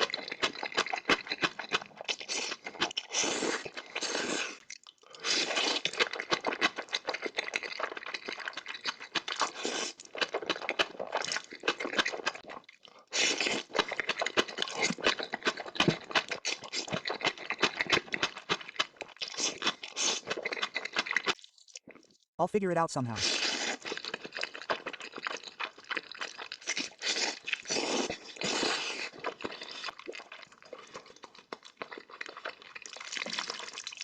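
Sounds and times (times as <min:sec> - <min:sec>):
noodles chewed and slurped: 0:00.0 - 0:22.2, 0:23.1 - 0:34.0.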